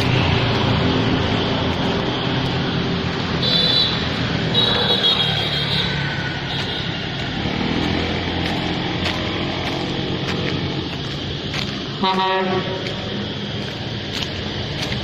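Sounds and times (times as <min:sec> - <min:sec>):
street noise: 0:00.0 - 0:15.0
vehicle engine running: 0:00.0 - 0:15.0.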